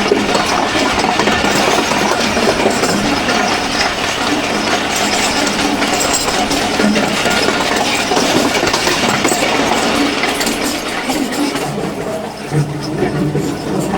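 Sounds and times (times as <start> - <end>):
rapid wheel clattering: 0.0 - 13.9
train wheels rushing on rails: 0.0 - 13.9.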